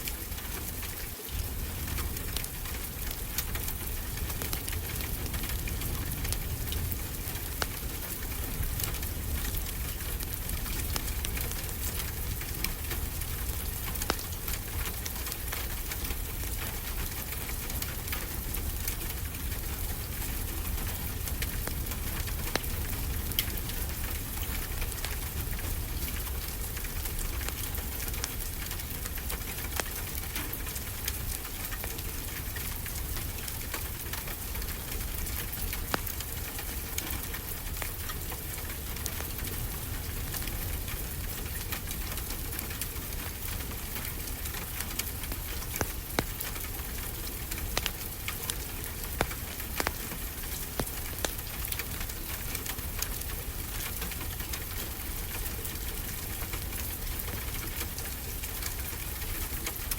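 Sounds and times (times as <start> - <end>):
fireplace crackling: 1.2 - 59.9.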